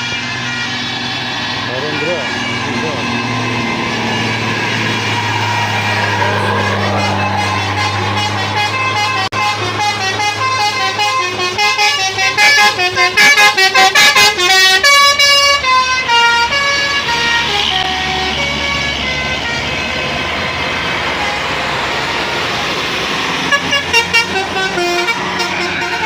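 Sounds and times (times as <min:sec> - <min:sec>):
bus engine idling: 0:00.0 - 0:26.0
musical bus horn playing a tune: 0:00.0 - 0:26.0.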